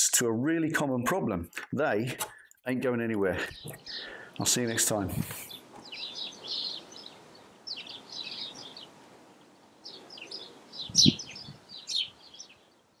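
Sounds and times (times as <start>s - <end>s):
faint background hiss: 0.0s - 13.0s
songbirds chirping: 0.3s - 13.0s.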